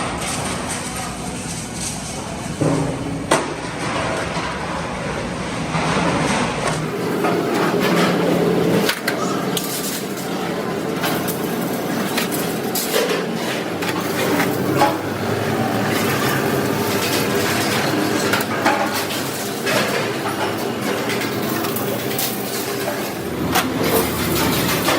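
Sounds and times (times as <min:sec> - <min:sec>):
steady machine hum: 0:00.0 - 0:24.9.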